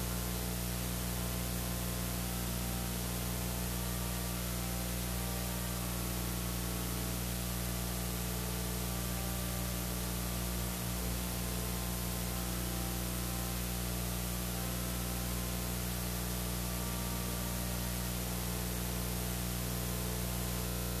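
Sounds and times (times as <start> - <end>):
low mains hum: 0.0 - 21.0.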